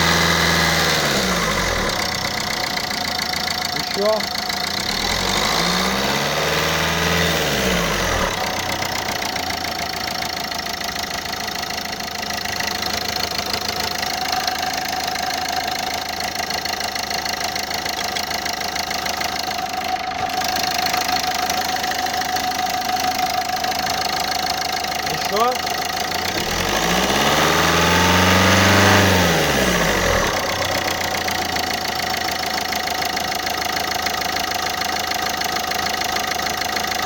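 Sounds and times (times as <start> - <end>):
car engine running with knock: 0.0 - 37.0.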